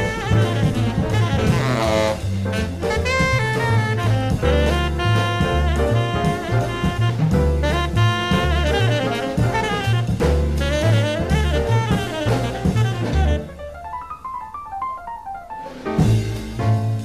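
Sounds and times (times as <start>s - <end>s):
saxophone: 0.0s - 14.0s
bass line: 0.0s - 14.1s, 16.0s - 17.0s
drum kit: 0.0s - 17.0s.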